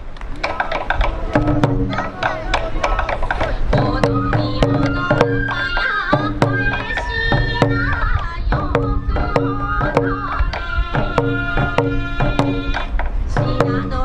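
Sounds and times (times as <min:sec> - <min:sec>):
bamboo flute melody: 0:00.3 - 0:14.0
taiko drums beating: 0:00.4 - 0:14.0.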